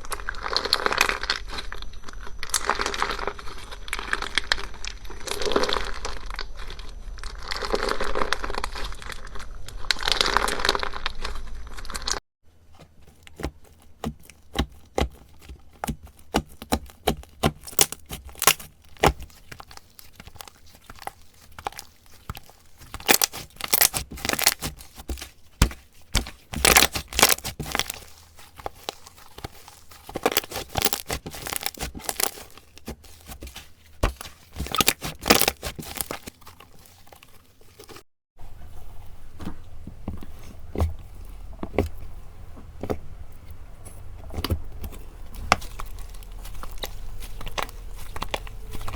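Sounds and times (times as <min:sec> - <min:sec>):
slime crinkling crackle: 0:00.0 - 0:38.0, 0:44.8 - 0:48.9.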